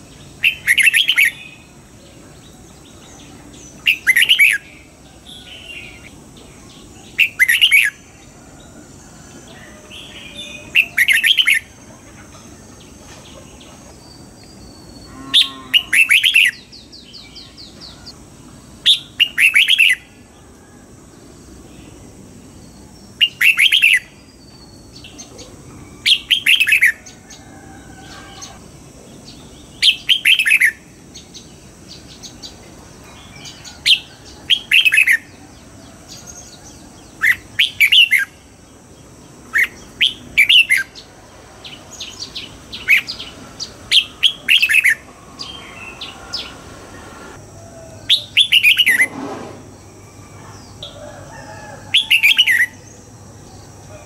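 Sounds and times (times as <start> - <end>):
bird singing bright phrases: 0.0 - 8.4, 9.1 - 18.2, 18.8 - 20.5, 21.7 - 27.4, 28.1 - 46.6.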